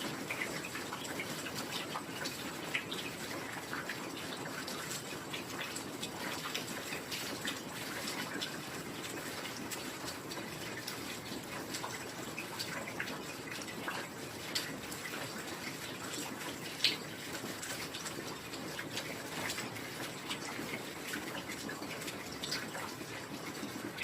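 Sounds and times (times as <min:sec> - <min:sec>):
raindrop hits and splashes: 0:00.0 - 0:24.0.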